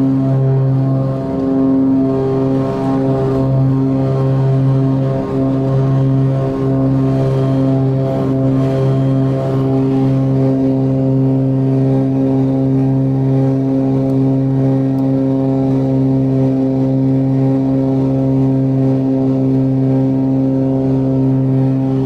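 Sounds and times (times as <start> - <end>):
aircraft engines droning in cabin: 0.0 - 22.0.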